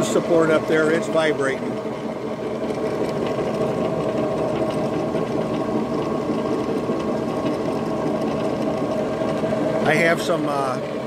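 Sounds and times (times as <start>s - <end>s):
rotor drum mechanical drone: 0.0s - 11.0s.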